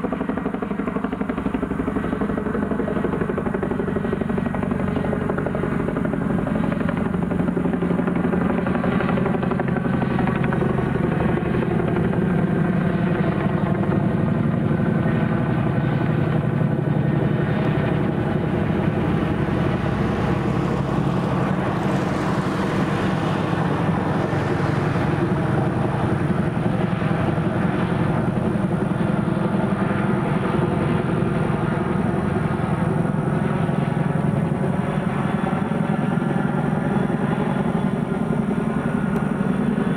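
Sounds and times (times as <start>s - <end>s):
helicopter rotors beating: 0.0s - 39.9s.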